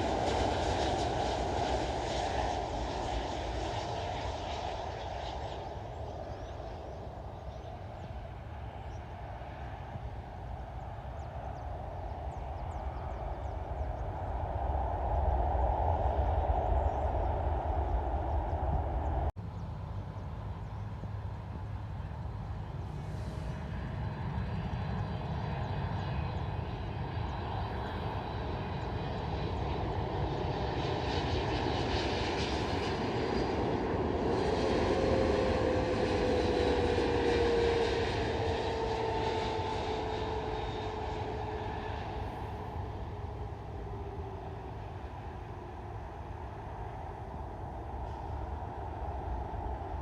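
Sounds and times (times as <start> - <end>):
jet airliner passing by: 0.0 - 50.0.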